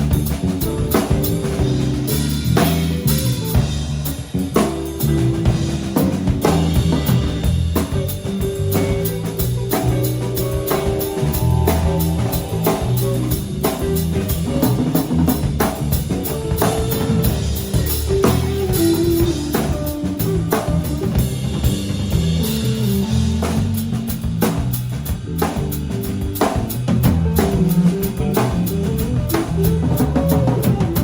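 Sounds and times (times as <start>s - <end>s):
instrumental rock band playing: 0.0s - 31.0s.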